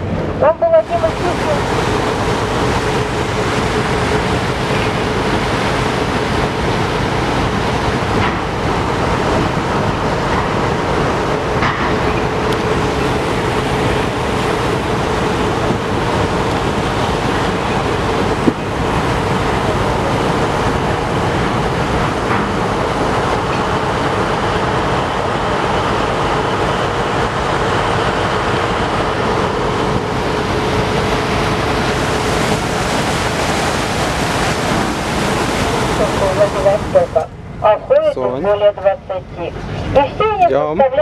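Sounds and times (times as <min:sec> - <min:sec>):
boat engine rumble and water rush: 0:00.0 - 0:41.0.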